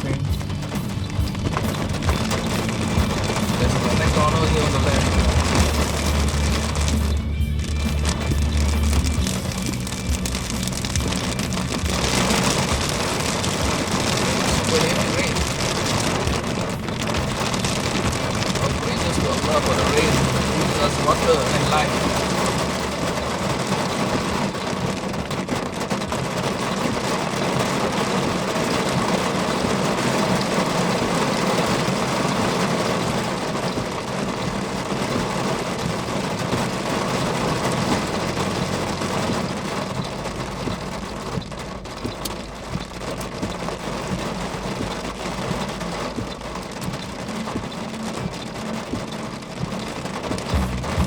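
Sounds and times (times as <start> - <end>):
car running and road noise: 0.0 - 51.0
heavy rain on car: 0.0 - 51.0.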